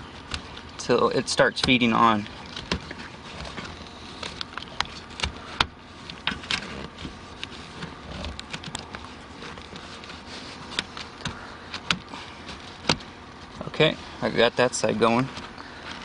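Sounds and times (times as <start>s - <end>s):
carpet panel rustling and scraping: 0.0s - 16.0s.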